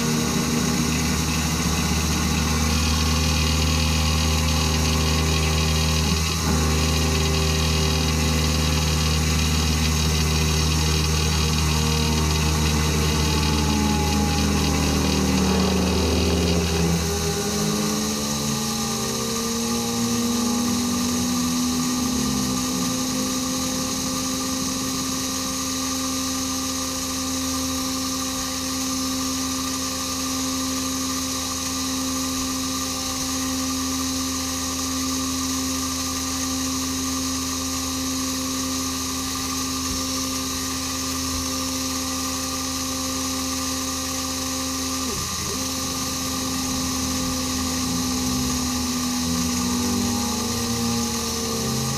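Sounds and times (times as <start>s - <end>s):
hiss of cutting and coolant: 0.0s - 51.9s
milling machine motor whine: 0.0s - 51.9s.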